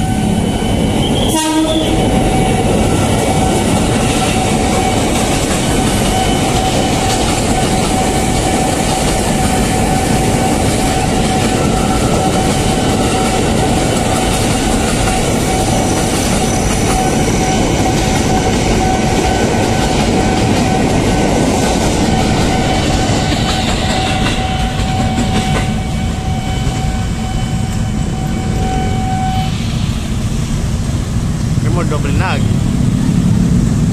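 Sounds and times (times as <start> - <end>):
crossing alarm high tone: 0.0 - 29.9
train wheels on rails: 0.0 - 33.9.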